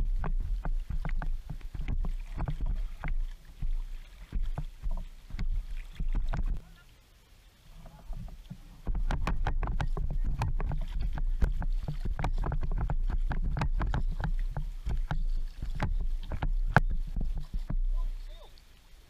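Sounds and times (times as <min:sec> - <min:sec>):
wind rumble on microphone: 0:00.0 - 0:06.6, 0:07.8 - 0:18.4
water splashing around kayak hull: 0:00.0 - 0:19.0.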